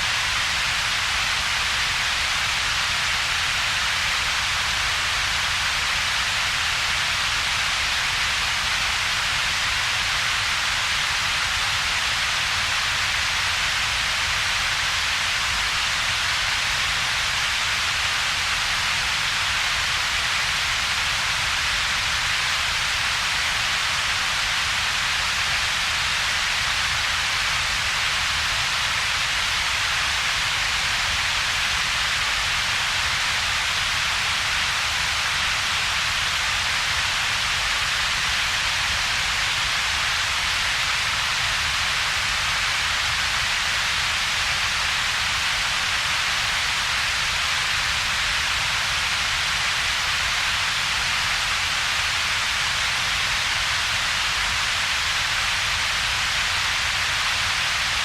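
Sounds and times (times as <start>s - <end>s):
synthetic steady hiss: 0.0s - 58.0s.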